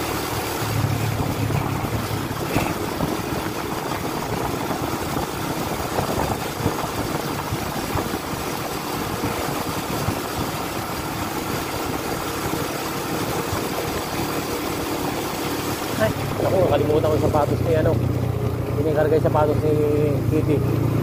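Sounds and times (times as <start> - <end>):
vehicle engine running: 0.0 - 21.0
wind and road noise: 0.0 - 21.0.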